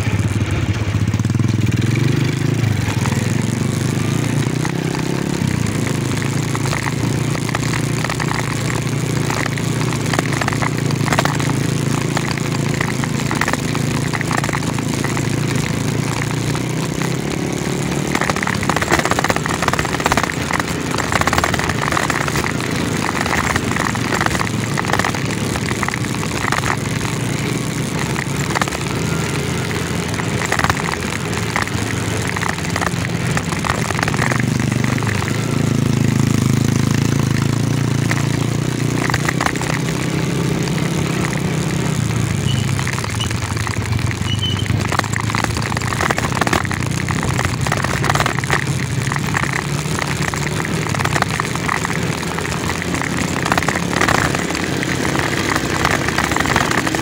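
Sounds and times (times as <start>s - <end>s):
bike clattering over bumps: 0.0s - 57.0s
motorcycle engine running: 0.0s - 57.0s.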